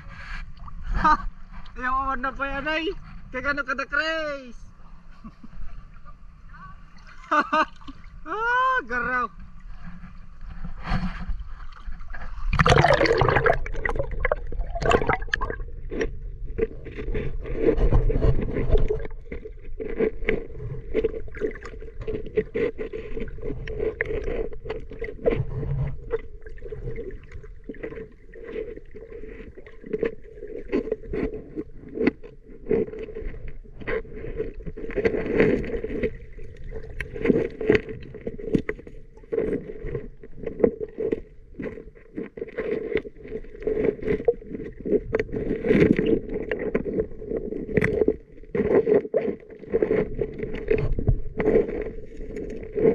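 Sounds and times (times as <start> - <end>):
underwater clicks and crackles: 0.0 - 3.6, 8.9 - 52.9
muffled underwater river hum: 0.0 - 52.9
water splashing: 6.4 - 52.9.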